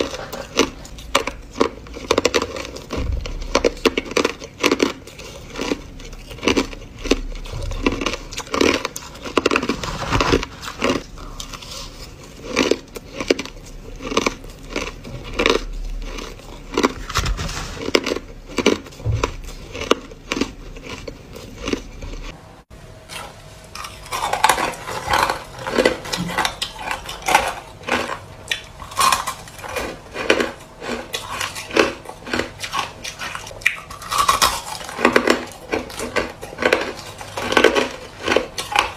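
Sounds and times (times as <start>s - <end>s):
crushed ice being chewed: 0.0s - 22.4s, 23.1s - 38.9s.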